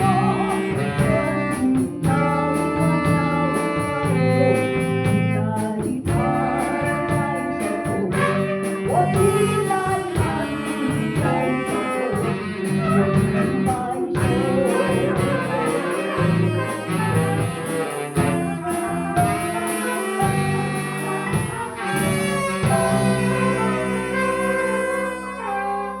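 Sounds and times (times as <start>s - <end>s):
band playing led by horns: 0.0s - 26.0s.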